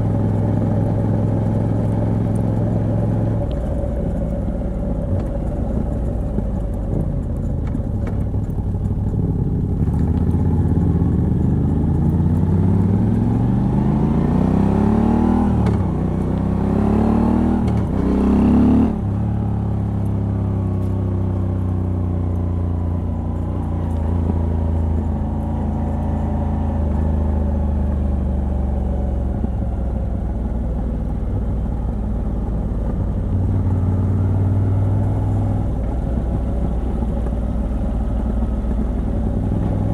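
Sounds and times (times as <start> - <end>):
motorcycle engine revving: 0.0 - 30.0, 31.0 - 39.9.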